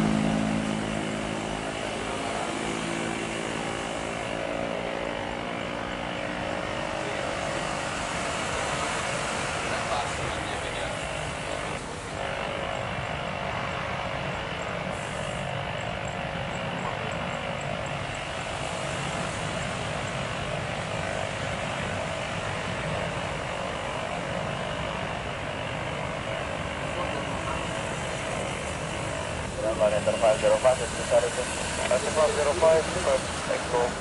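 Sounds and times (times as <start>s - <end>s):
airliner engines running: 0.0s - 34.0s
faint constant engine whine: 0.0s - 34.0s.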